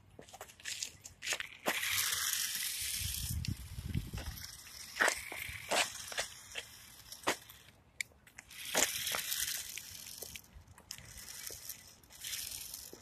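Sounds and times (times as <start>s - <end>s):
rc truck on gritty ground: 0.0s - 13.0s.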